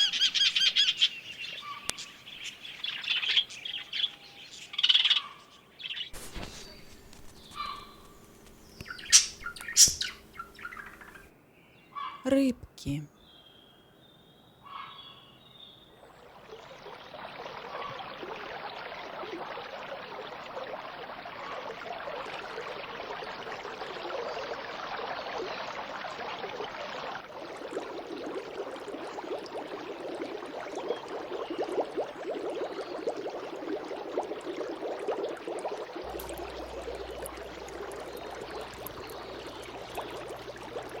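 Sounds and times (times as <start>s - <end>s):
aquarium water bubbling: 0.0s - 11.3s, 16.0s - 41.0s.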